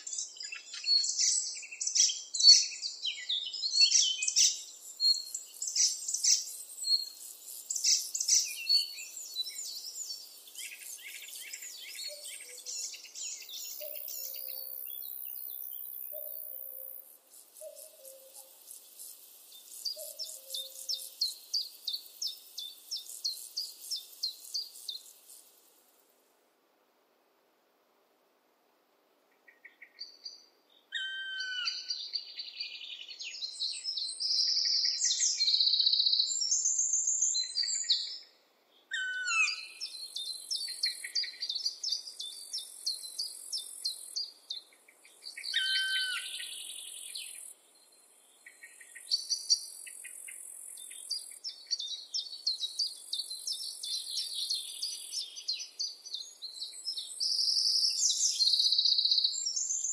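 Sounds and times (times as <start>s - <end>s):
songbirds singing: 0.0s - 25.7s, 29.3s - 59.9s.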